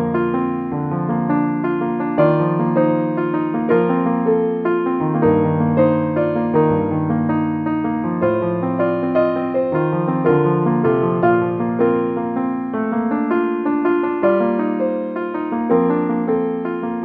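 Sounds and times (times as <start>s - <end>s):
electric piano music: 0.0s - 17.0s.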